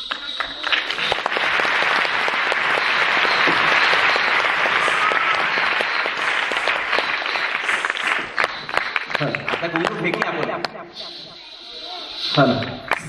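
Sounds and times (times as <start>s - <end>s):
audience applauding: 0.0s - 10.8s, 12.4s - 13.0s.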